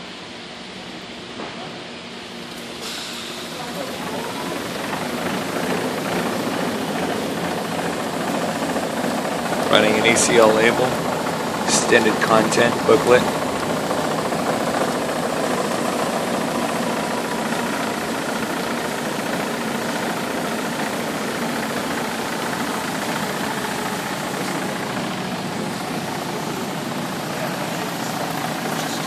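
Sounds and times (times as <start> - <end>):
slitter rewinder machine whirring: 1.3 - 29.0.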